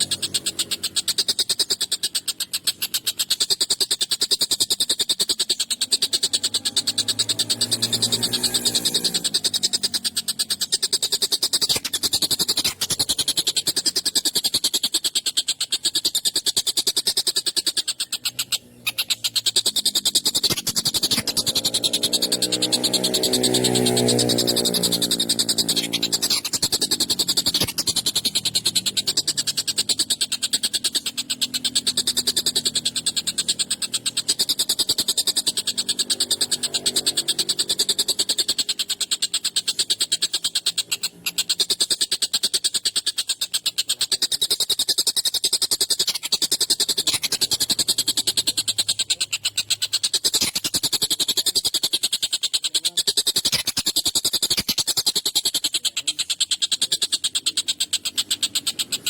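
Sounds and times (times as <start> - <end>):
kingfisher rattling chatter: 0.0 - 59.0.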